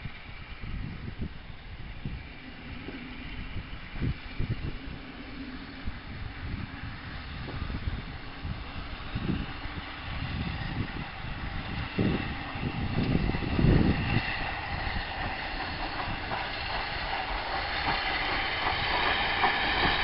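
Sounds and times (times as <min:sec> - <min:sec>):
steam hiss: 0:00.0 - 0:20.0
steam locomotive exhaust chuffs: 0:00.0 - 0:20.0.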